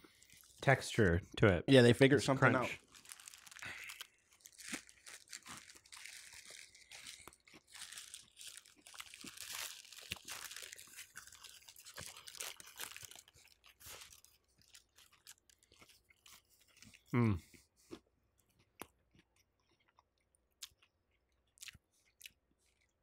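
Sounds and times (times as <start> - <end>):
person chewing crunchy food: 0.0 - 0.6, 2.7 - 23.0.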